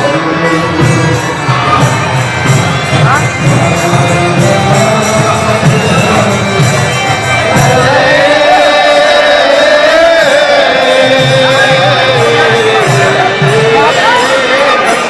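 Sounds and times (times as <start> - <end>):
instrumental accompaniment: 0.0 - 15.0
person singing devotional melody: 0.0 - 15.0.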